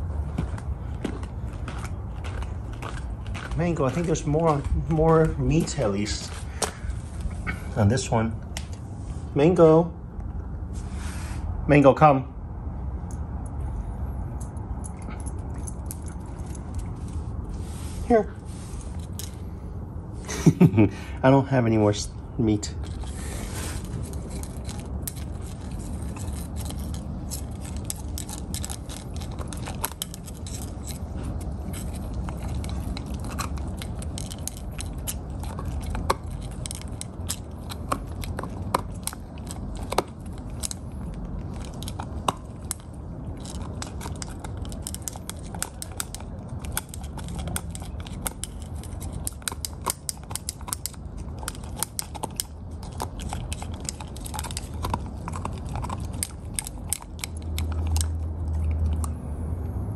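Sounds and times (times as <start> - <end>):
puppy crunching bone: 0.0 - 9.0, 13.1 - 17.8, 18.4 - 20.2, 22.1 - 59.7.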